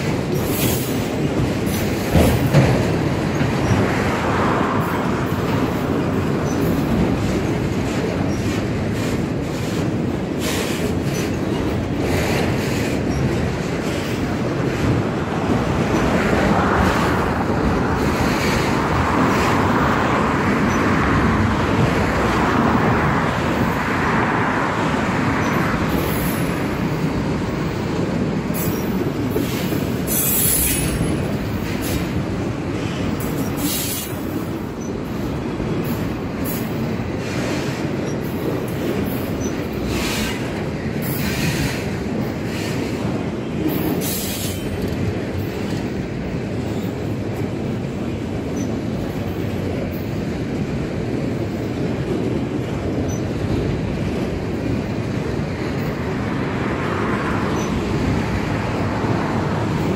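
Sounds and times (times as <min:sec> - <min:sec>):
train clicks and clatter: 0:00.0 - 0:59.9
train wheels rumbling on rails: 0:00.0 - 0:59.9.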